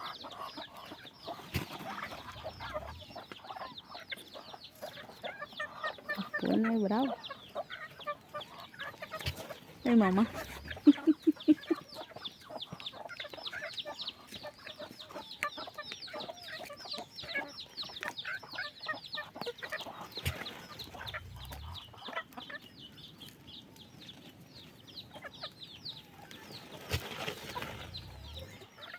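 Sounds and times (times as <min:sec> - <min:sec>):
low clucking: 0:00.0 - 0:22.6, 0:26.9 - 0:28.9
chicks peeping: 0:00.0 - 0:28.9.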